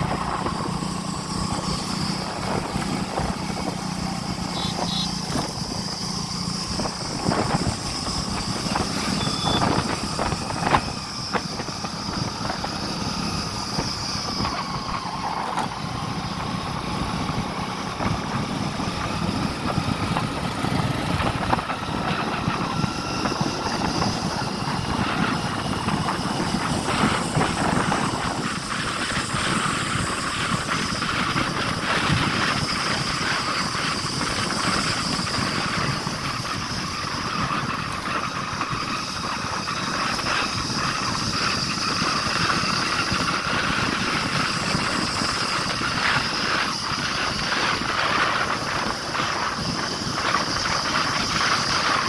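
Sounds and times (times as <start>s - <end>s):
motorcycle engine running: 0.0s - 52.0s
road noise: 0.0s - 52.0s
wind noise: 0.0s - 52.0s.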